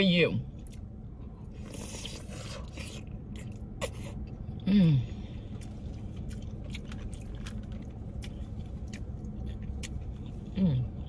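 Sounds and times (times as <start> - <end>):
steady low hum: 0.0 - 11.0
chewing food: 0.6 - 4.4, 5.3 - 11.0.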